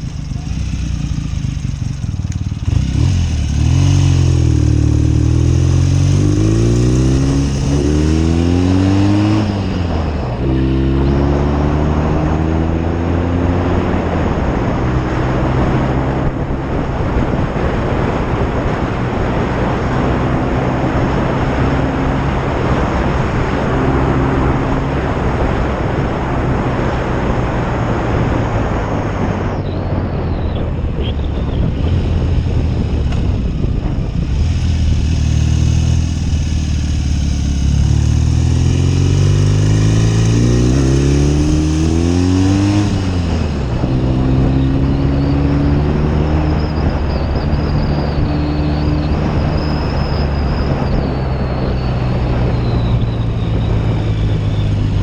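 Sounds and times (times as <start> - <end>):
motorcycle engine accelerating: 0.0 - 55.0
wind noise on microphone: 1.1 - 55.0.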